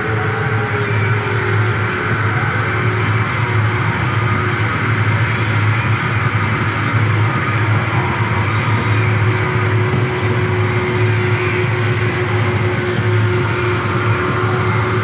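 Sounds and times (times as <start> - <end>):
dense wall of noise: 0.0 - 15.0
heavy low hum: 0.0 - 15.0.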